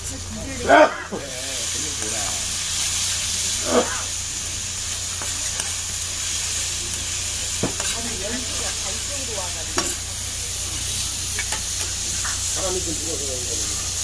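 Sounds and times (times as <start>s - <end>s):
pork sizzling on a griddle: 0.0s - 14.0s.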